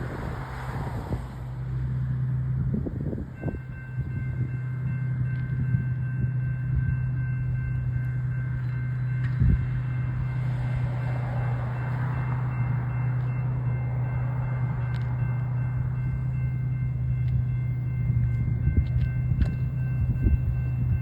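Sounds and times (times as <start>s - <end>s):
train engine drone: 0.0s - 21.0s.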